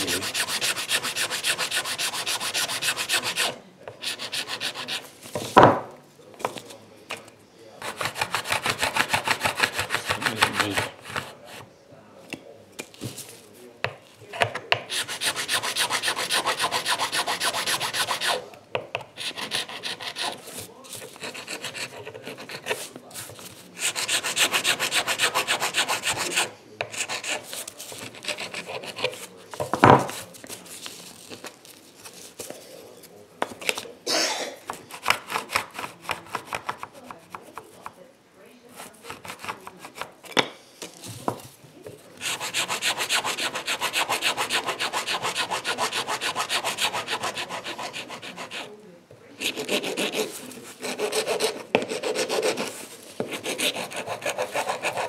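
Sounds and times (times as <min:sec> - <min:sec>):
hand file scraping plastic: 0:00.0 - 0:05.5, 0:06.5 - 0:11.7, 0:14.3 - 0:18.5, 0:19.1 - 0:32.6, 0:34.7 - 0:37.8, 0:38.7 - 0:40.4, 0:42.1 - 0:48.8, 0:49.4 - 0:55.0.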